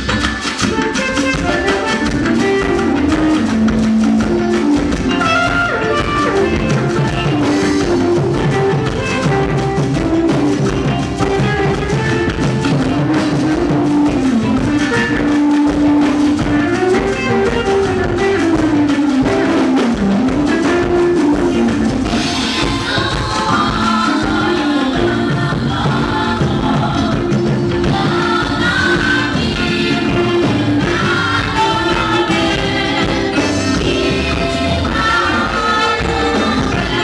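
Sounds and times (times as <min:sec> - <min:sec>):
music with drums and singing: 0:00.0 - 0:37.0.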